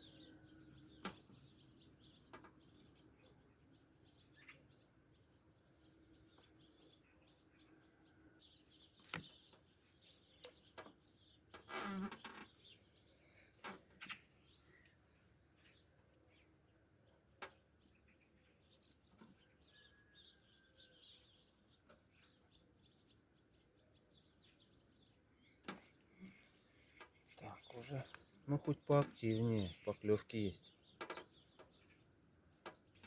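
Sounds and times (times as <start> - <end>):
faint birds chirping: 0.0 - 33.0.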